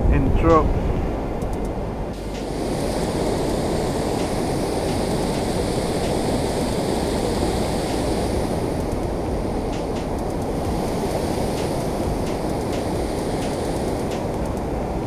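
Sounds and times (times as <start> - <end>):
water rushing over dam spillway: 2.2 - 15.0.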